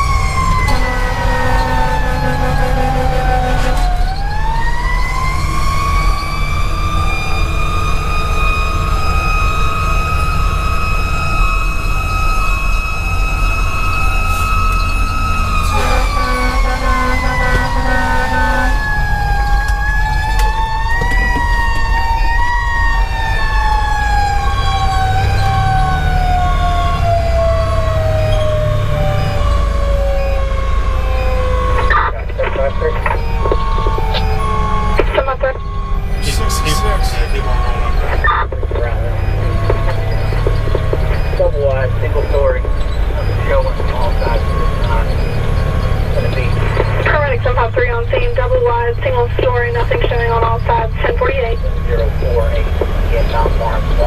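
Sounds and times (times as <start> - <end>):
diesel engine running: 0.0 - 54.0
fire engine siren: 0.0 - 54.0
road noise: 0.0 - 54.0.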